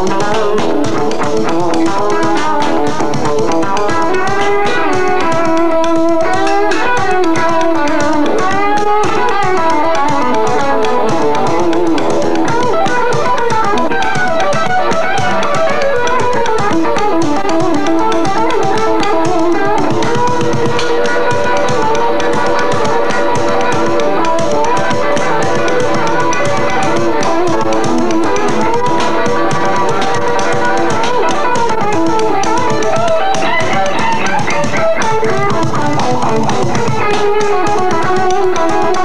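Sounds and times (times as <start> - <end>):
electric guitar lead: 0.0 - 39.0
light tapping percussion: 0.0 - 39.0.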